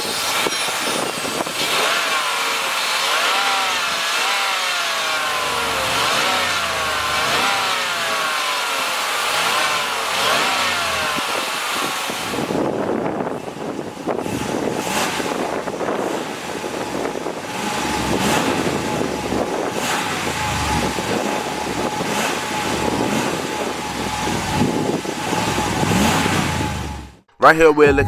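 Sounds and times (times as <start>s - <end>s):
car engine exhaust running: 1.3s - 27.2s.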